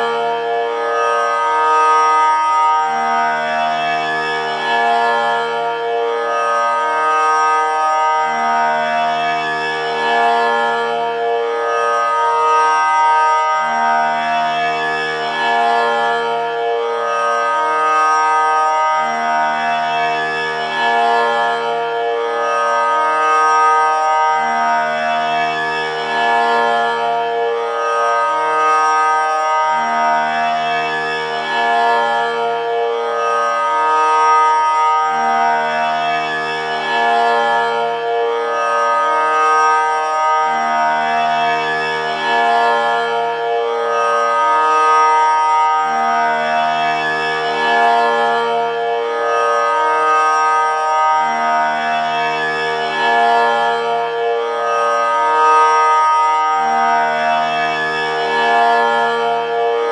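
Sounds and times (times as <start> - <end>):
tanpura drone: 0.0 - 59.9.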